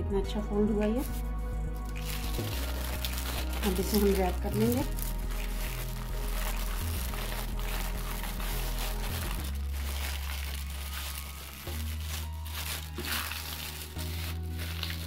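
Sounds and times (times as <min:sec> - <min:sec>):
background music with low notes: 0:00.0 - 0:15.0
paper crinkling and rustling: 0:01.0 - 0:15.0.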